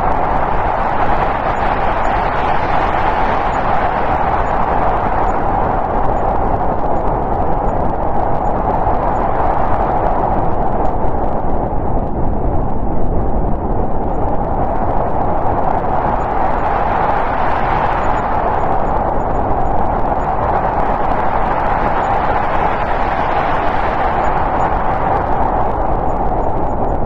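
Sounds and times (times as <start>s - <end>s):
snowstorm wind rushing: 0.0s - 27.0s.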